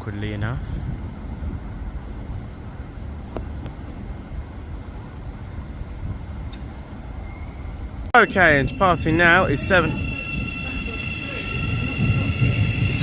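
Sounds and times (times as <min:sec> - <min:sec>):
railway station rumble: 0:00.0 - 0:13.0.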